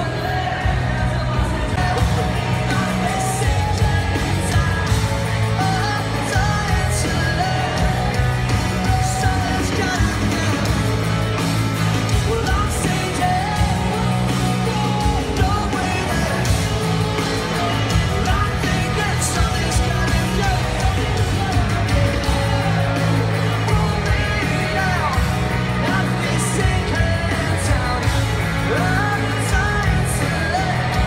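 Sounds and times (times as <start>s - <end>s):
lead singer singing: 0.0s - 31.0s
live pop-punk band playing: 0.0s - 31.0s.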